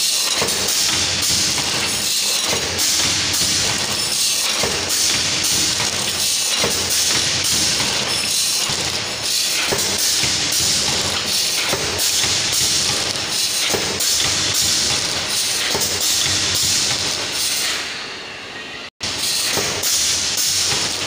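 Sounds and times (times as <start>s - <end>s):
packing machine hiss and clatter: 0.0s - 17.9s, 19.0s - 21.0s.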